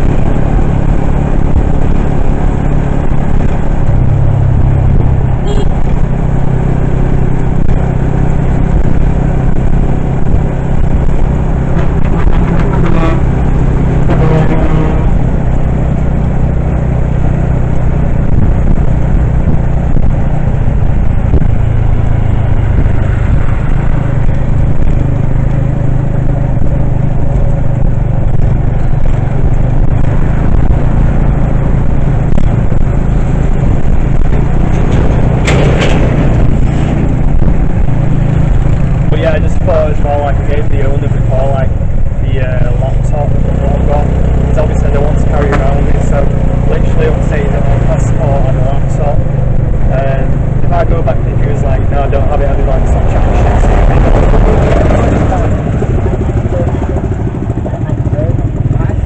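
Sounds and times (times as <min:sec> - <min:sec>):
vehicle road and engine rumble: 0:00.0 - 0:59.0.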